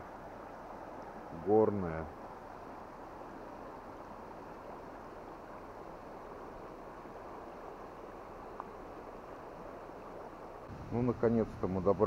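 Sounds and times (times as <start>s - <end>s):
stream flowing over pebbles: 0.0s - 12.0s.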